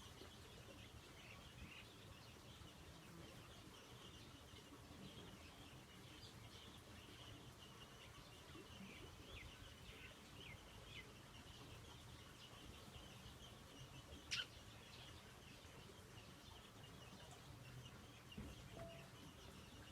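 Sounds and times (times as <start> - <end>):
faint birdsong chirps: 0.0 - 19.9.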